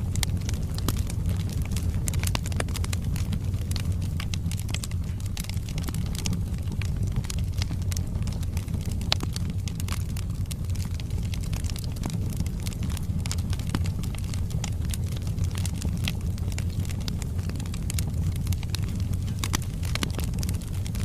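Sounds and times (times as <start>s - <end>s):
low rumble of flames: 0.0s - 21.0s
wood crackling and popping: 0.0s - 21.0s.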